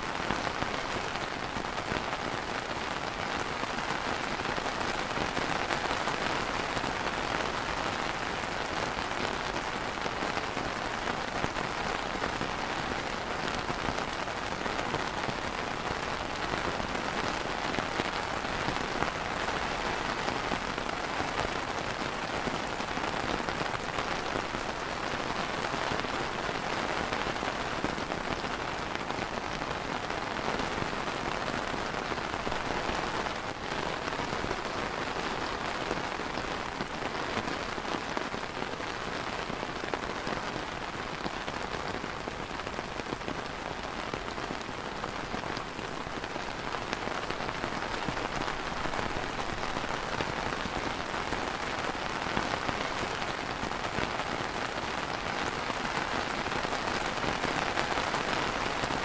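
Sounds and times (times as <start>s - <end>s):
rain on plastic umbrella: 0.0s - 59.0s.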